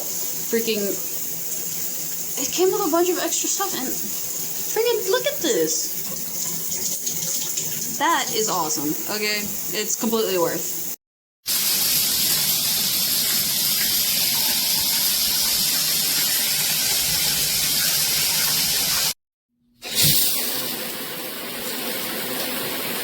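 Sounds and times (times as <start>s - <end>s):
shower head spraying water: 0.0s - 19.2s.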